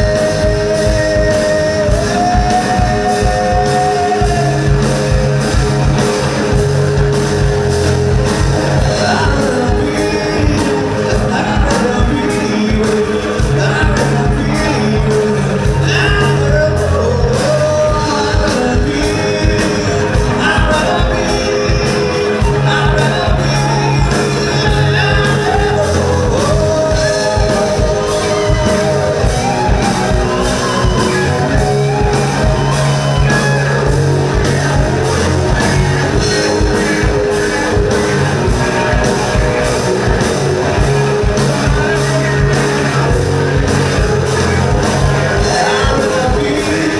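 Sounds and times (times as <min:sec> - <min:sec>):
man singing: 0:00.0 - 0:07.7, 0:08.3 - 0:46.9
bass guitar: 0:00.0 - 0:46.9
drum kit beat: 0:00.0 - 0:46.9
electric guitars: 0:00.0 - 0:46.9.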